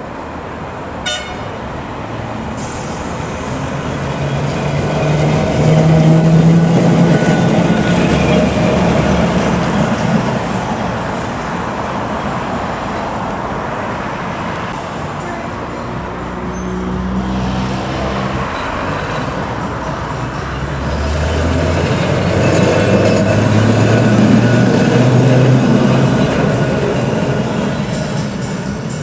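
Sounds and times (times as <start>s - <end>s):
tram passing on track: 0.0s - 29.0s.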